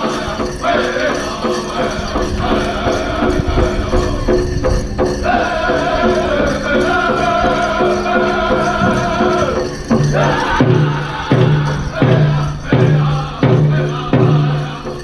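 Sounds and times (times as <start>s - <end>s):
big drum steady beat: 0.0s - 15.0s
group singing high voices: 0.0s - 15.0s.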